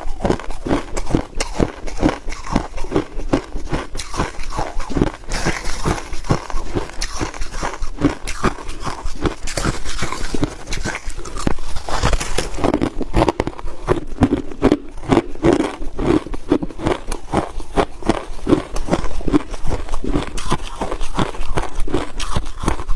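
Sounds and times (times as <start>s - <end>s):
ice crunching while chewed: 0.0s - 22.9s.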